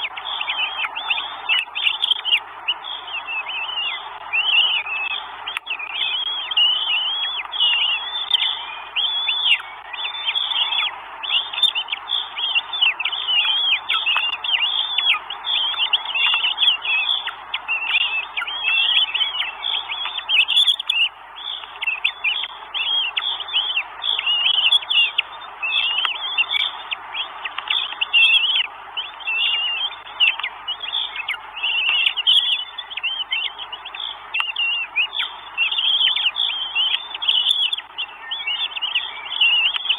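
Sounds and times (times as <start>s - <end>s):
hawk chicks begging calls: 0.0s - 39.9s.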